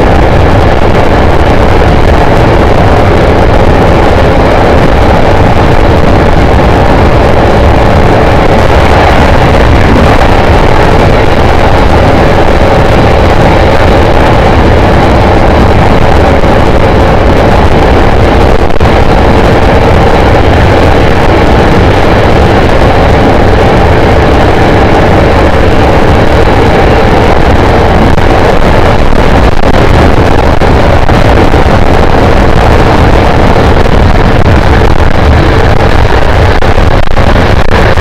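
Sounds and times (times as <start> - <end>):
train running at speed: 0.0 - 38.0.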